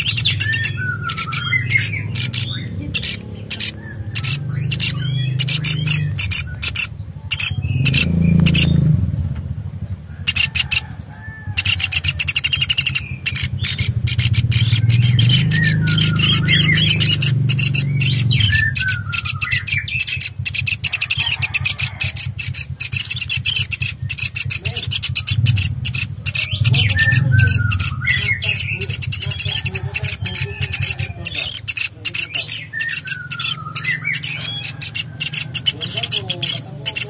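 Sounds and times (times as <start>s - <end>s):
birds chirping: 0.0s - 37.0s
steady low hum: 0.0s - 37.0s.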